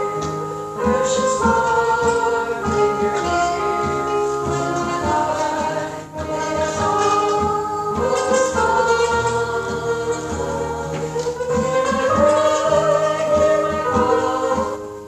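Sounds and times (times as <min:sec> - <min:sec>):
instrumental accompaniment: 0:00.0 - 0:15.0
voices singing a hymn: 0:00.0 - 0:15.0.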